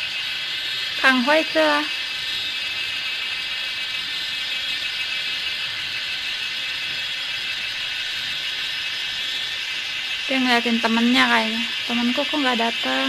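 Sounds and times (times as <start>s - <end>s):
high-pitched buzzing drone: 0.0s - 13.0s.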